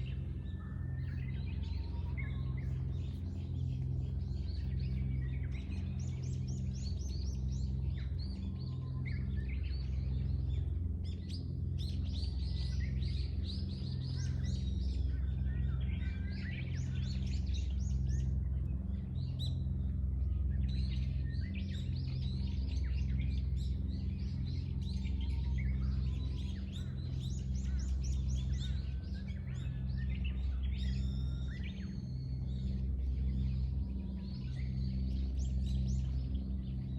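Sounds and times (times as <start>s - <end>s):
low hum: 0.0s - 36.9s
small birds chirping: 0.0s - 36.9s.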